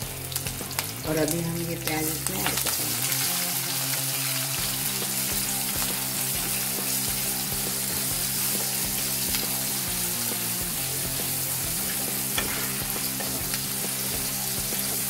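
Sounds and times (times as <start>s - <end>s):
faint background music: 0.0s - 15.0s
onions sizzling in oil: 0.0s - 15.0s.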